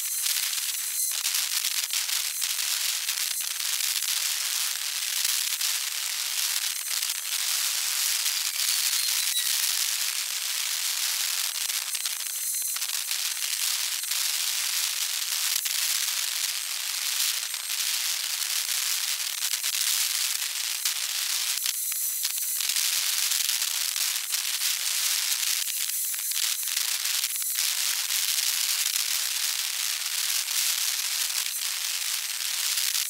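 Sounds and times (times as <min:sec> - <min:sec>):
high-pitched crackling hiss: 0:00.0 - 0:33.0.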